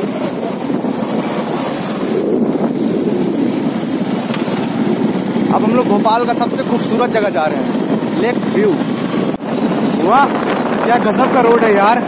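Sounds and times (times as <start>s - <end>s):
motorcycle running: 0.0s - 12.0s
road noise: 0.0s - 12.0s
wind buffeting microphone: 0.0s - 12.0s.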